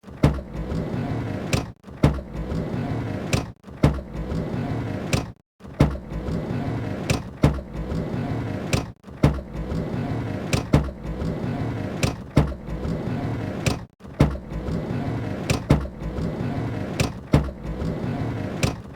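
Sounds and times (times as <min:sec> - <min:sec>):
sliding door rollers rumbling: 0:00.2 - 0:18.9.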